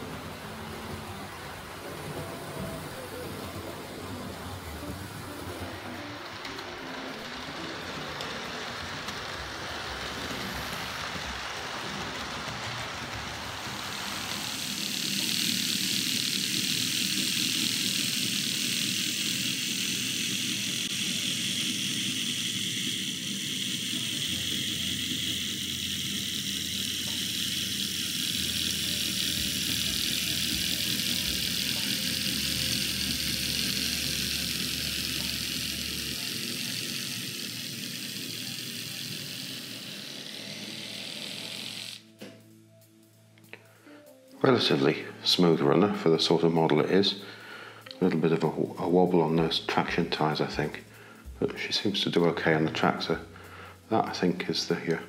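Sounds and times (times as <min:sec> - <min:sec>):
model locomotive motor whirring: 0:00.0 - 0:42.4, 0:43.5 - 0:55.0.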